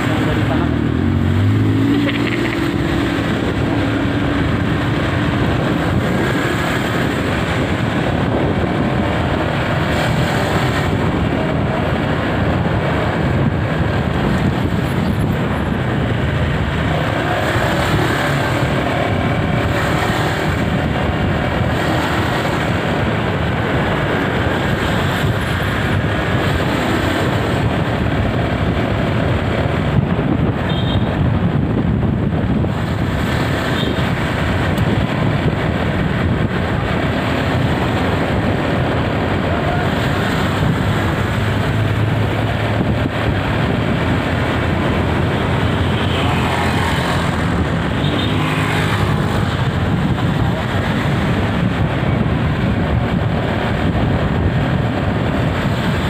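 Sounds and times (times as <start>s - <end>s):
cars passing: 0.0s - 56.0s
motorbikes passing: 0.0s - 56.0s.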